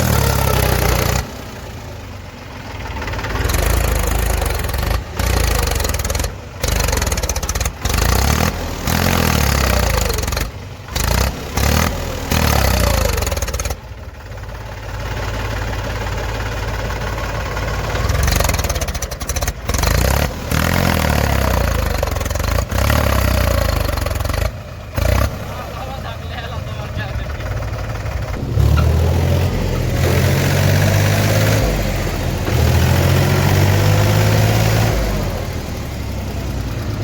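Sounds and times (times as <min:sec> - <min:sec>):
diesel engine rumbling under load: 0:00.0 - 0:37.0.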